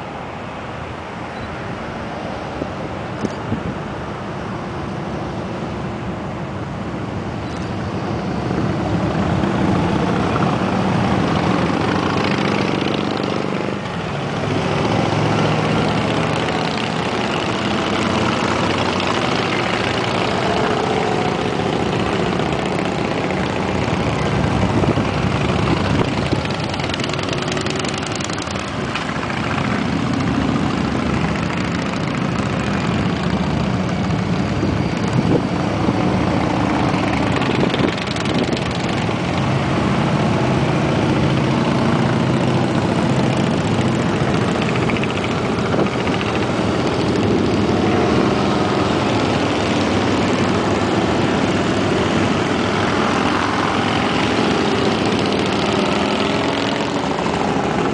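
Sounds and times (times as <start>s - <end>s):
motorcycles riding past: 0.0s - 57.9s.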